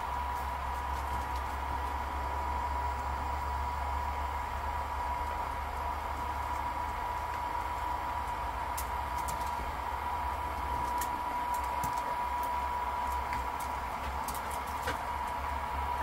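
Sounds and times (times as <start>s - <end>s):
small fan motor whining: 0.0s - 16.0s.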